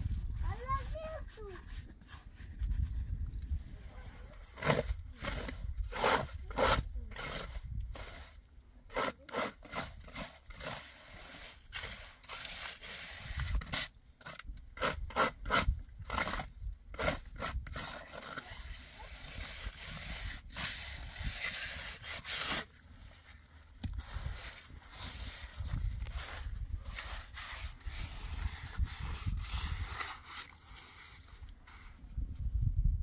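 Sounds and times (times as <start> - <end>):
trowel scraping wet cement: 4.3 - 32.1.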